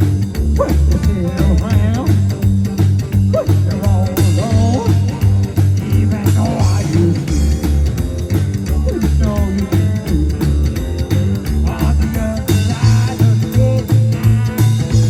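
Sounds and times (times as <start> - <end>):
drums: 0.0 - 15.0
electric guitar: 0.0 - 15.0
pulsing bass line: 0.0 - 15.0.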